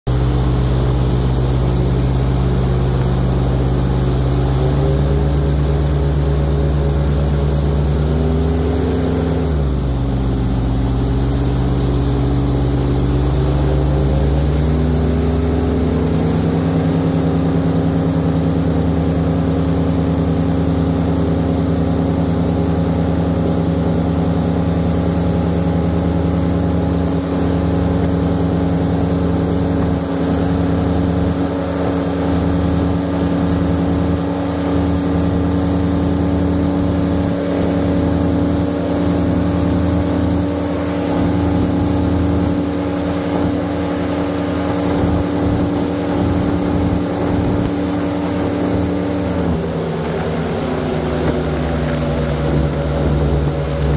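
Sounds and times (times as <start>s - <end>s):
airboat engine and propeller: 0.0s - 53.9s.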